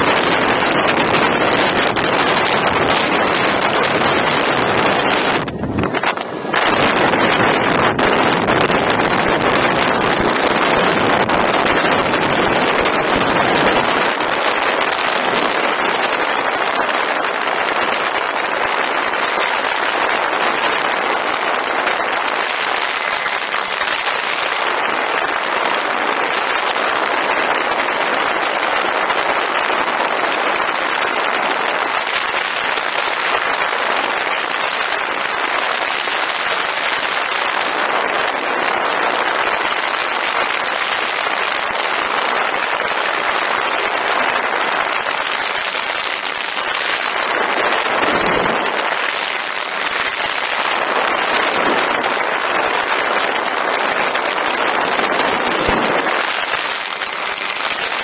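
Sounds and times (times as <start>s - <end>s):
airflow and propeller rushing: 0.0s - 58.0s.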